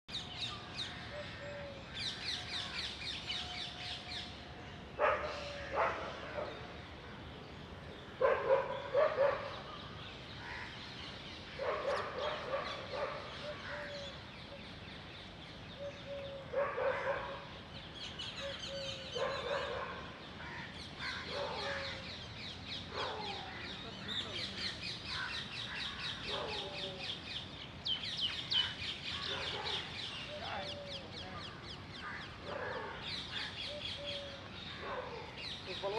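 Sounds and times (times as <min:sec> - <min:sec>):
birds chattering: 0:00.1 - 0:35.9
harsh bird calls: 0:00.1 - 0:35.9.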